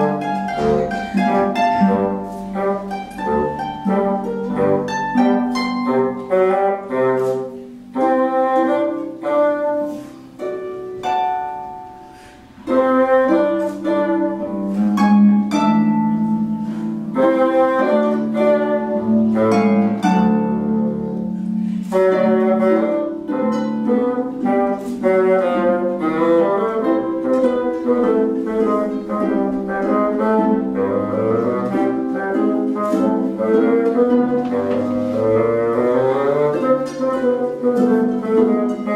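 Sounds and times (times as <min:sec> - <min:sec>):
instrumental music with quick notes: 0:00.0 - 0:38.9.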